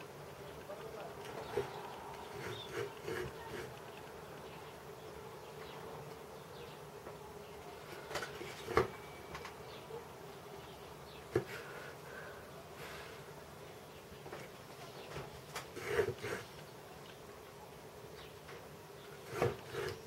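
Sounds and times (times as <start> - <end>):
steady buzzing hum: 0.0 - 20.0.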